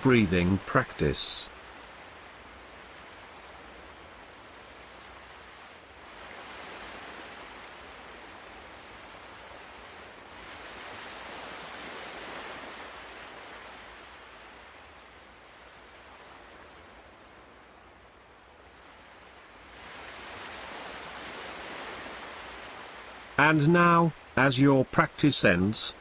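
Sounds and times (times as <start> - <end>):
ocean waves washing ashore: 0.0 - 26.0.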